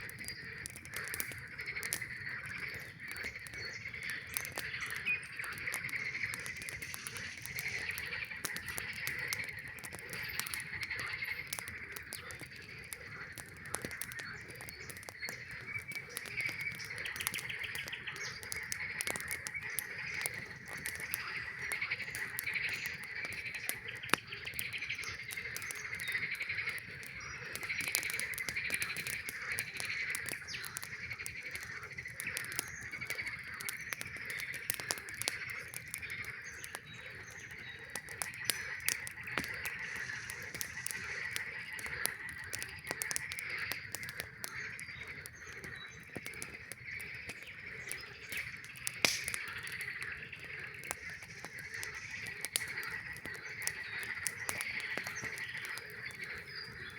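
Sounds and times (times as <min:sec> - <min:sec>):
campfire crackling: 0:00.0 - 0:56.9
frogs calling: 0:00.0 - 0:56.9.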